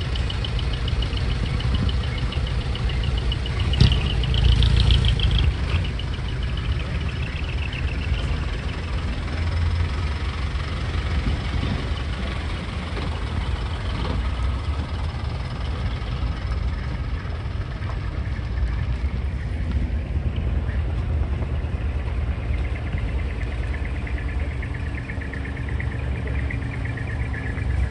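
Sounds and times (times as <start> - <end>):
truck engine rumbling past: 0.0 - 27.9.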